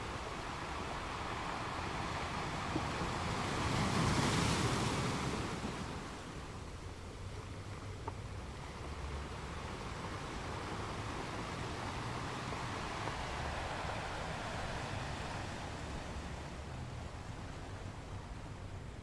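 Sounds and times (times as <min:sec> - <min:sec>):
ocean waves breaking: 0:00.0 - 0:07.6, 0:08.2 - 0:19.0.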